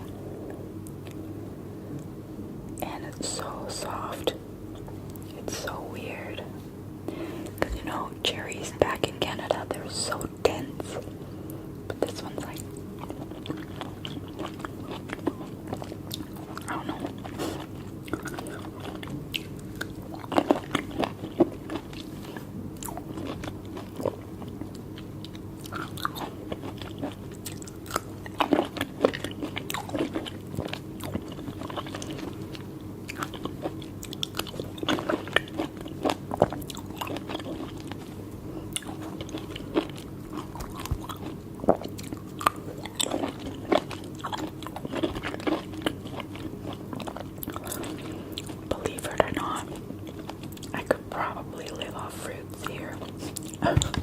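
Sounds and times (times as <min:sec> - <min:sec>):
person chewing cherries: 0:02.7 - 0:54.0.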